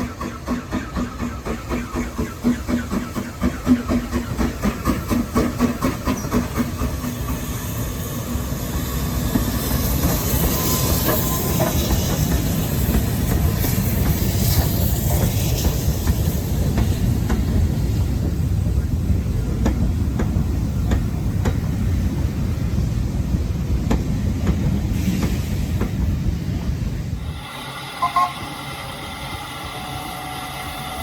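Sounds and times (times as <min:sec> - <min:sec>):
hiss of steam: 0:00.0 - 0:31.0
steam locomotive exhaust beats: 0:00.0 - 0:31.0
train rumble: 0:00.0 - 0:31.0.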